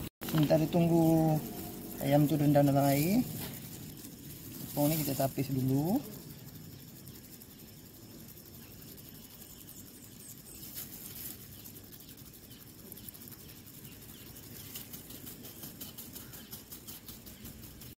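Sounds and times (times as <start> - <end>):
flour rasping through a sieve: 0.0 - 18.0
faint bird chirps: 0.6 - 18.0.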